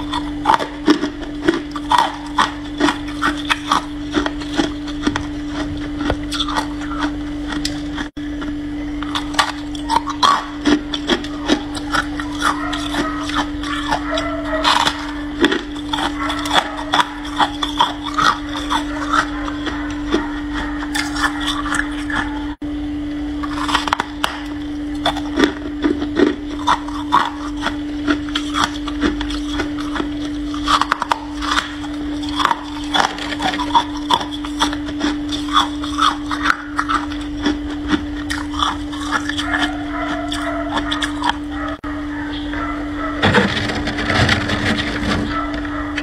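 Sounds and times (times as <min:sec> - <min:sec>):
frost crunching and crackling: 0:00.0 - 0:22.6, 0:23.4 - 0:41.8, 0:42.9 - 0:46.0
low hum: 0:00.0 - 0:46.0.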